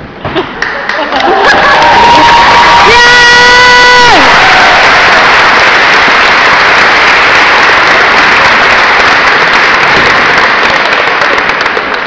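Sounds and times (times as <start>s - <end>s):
crowd applause: 0.6s - 12.0s.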